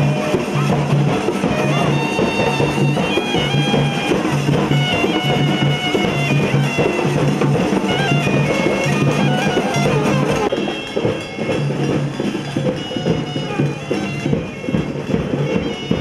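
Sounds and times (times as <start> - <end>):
frame drums beating: 0.0 - 16.0
reed pipe droning melody: 0.0 - 16.0
small hand cymbals: 0.0 - 16.0.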